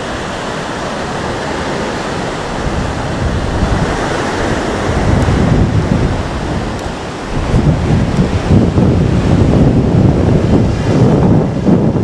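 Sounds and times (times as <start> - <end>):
surf breaking on shore: 0.0 - 12.0
wind buffeting microphone: 0.0 - 12.0.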